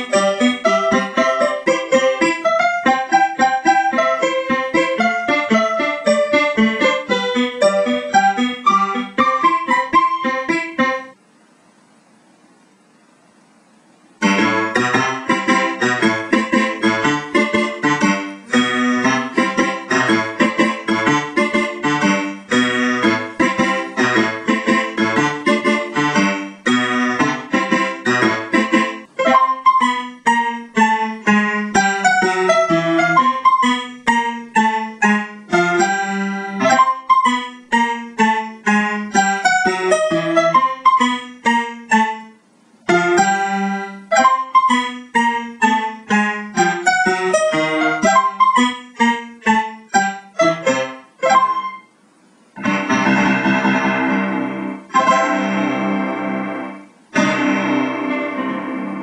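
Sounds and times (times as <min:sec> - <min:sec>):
lively piano music: 0:00.0 - 0:11.2, 0:14.2 - 0:52.0, 0:52.6 - 0:59.0.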